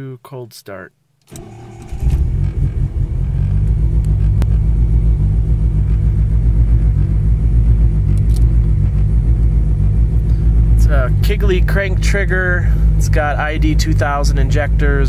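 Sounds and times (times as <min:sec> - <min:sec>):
car engine starting and idling: 0:01.3 - 0:15.0.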